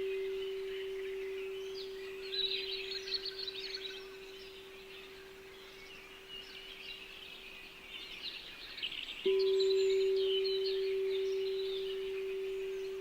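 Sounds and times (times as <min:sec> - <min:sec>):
singing bowl hum: 0:00.0 - 0:07.0, 0:09.2 - 0:13.0
songbirds chirping: 0:00.0 - 0:13.0.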